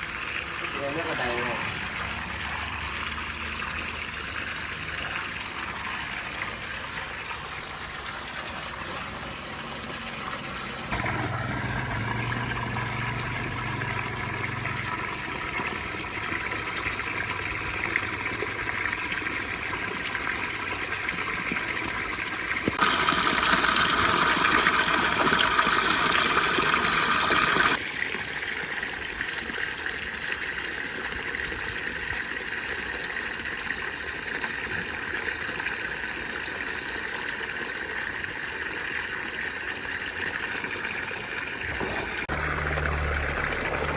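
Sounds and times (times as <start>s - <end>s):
water running into a pool: 0.0s - 43.9s.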